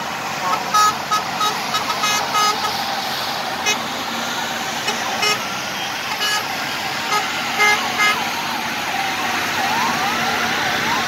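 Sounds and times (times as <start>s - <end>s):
traffic and engine noise: 0.0s - 11.0s
sirens wailing and yelping: 0.1s - 11.0s.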